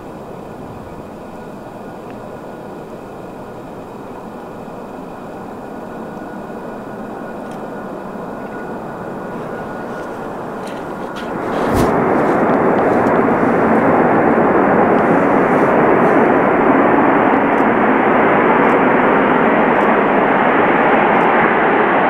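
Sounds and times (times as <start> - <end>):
high engine whine: 0.0 - 22.0
jet engines rumbling: 0.0 - 22.0.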